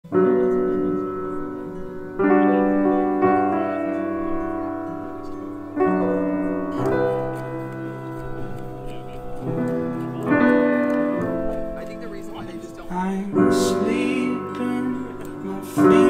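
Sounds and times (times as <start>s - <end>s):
slow piano chords: 0.1s - 16.0s.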